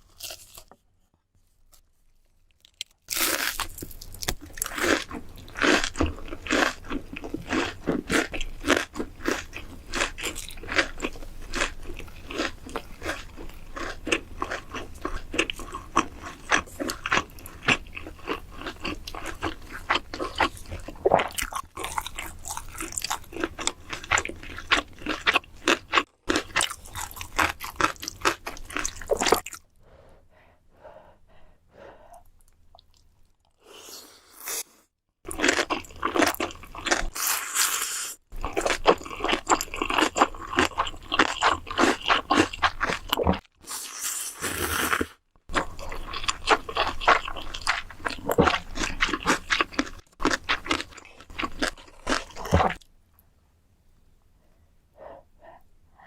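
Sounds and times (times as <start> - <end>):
person chewing crunchy food: 0.0 - 0.7, 2.5 - 29.8, 32.2 - 52.9.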